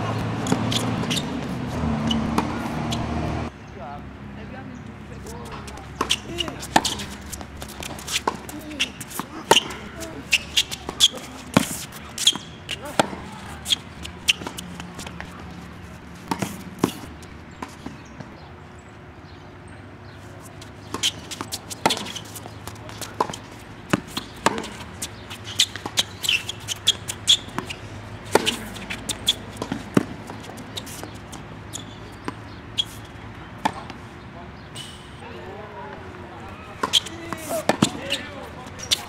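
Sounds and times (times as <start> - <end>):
rackets striking tennis ball: 0.0 - 3.5, 5.2 - 18.4, 20.0 - 34.0, 36.7 - 39.0
tennis ball bouncing: 0.0 - 3.5, 5.2 - 18.4, 20.5 - 34.0, 36.7 - 39.0.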